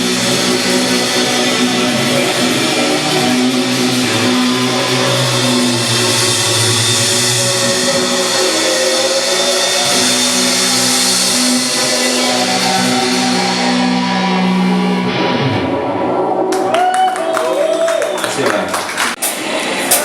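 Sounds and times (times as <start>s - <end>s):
rock band sustained guitar chord: 0.0s - 16.6s.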